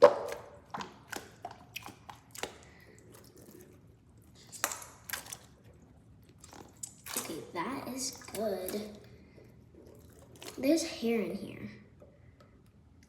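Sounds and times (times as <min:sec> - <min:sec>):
water drips: 0:00.0 - 0:11.0
water splashes: 0:00.0 - 0:11.0
wet squelches of foam toys: 0:00.0 - 0:11.0.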